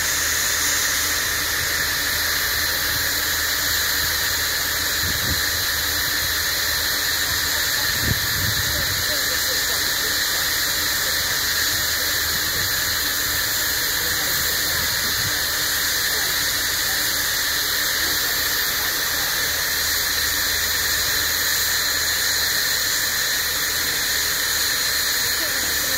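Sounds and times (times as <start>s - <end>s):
steam hissing: 0.0s - 25.9s.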